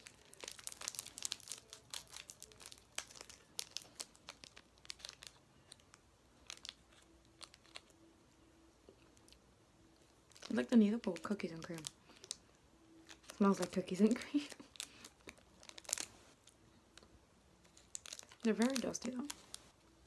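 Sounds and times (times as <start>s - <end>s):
plastic wrapper crinkling: 0.0s - 8.1s, 8.9s - 19.9s.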